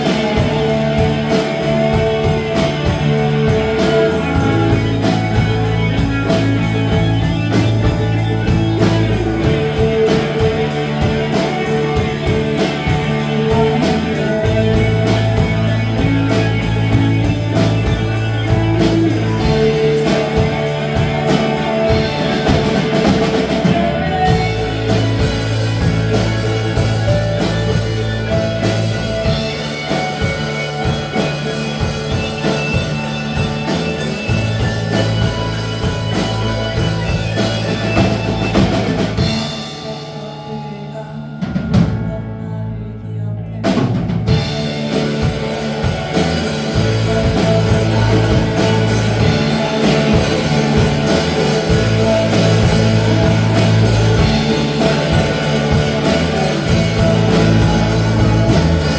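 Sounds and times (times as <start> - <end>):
drum kit: 0.0 - 42.8, 43.6 - 58.9
bass guitar: 0.0 - 58.9
rock band playing live: 0.0 - 58.9.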